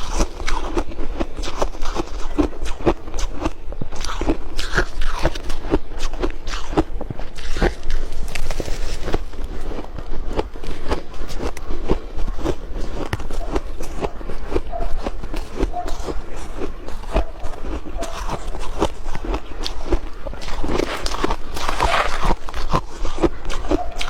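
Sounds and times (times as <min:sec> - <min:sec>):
ice crunching between teeth: 0:00.0 - 0:24.0.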